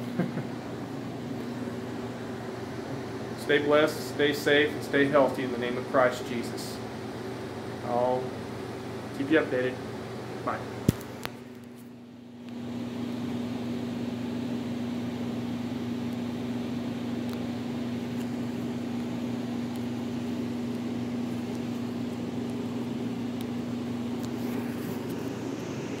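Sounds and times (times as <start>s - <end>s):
mechanical hum with low drone: 0.0s - 26.0s.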